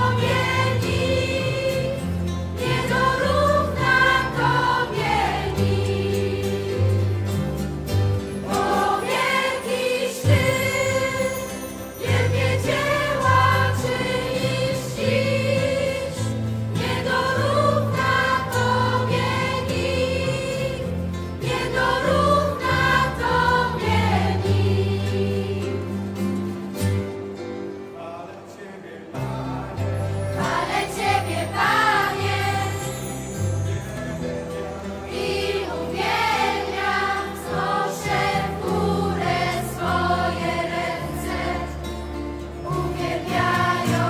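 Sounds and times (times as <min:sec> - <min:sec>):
choir singing worship song: 0:00.0 - 0:26.6, 0:28.0 - 0:44.0
instrumental backing with bass: 0:00.0 - 0:27.9, 0:29.2 - 0:44.0.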